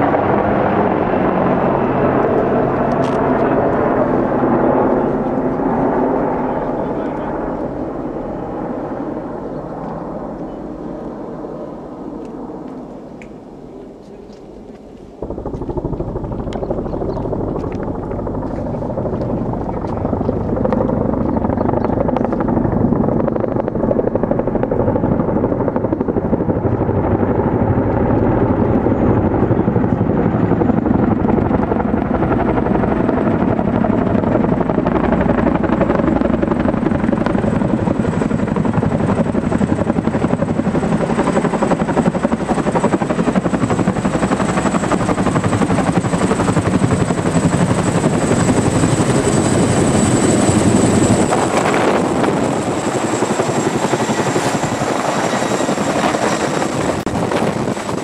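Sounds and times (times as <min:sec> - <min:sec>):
helicopter rotor and engine noise: 0:00.0 - 0:58.0.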